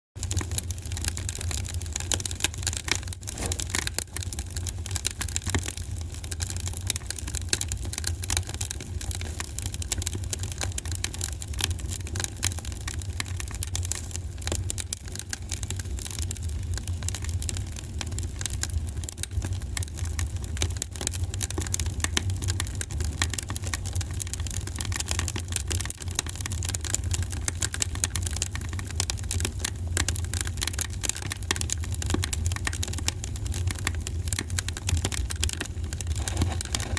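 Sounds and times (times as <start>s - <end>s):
wood fire crackling: 0.2s - 36.9s.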